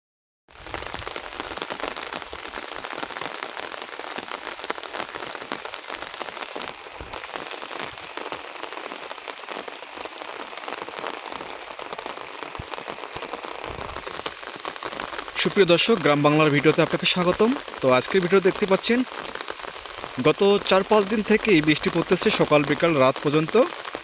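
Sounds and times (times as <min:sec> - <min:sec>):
heavy rain: 0:00.5 - 0:24.0.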